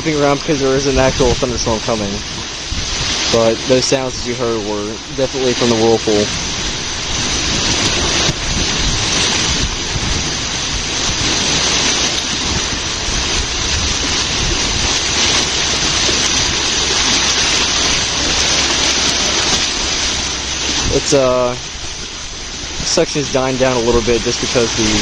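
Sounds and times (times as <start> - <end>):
water rushing and churning: 0.0 - 25.0
wind buffeting microphone: 0.0 - 25.0.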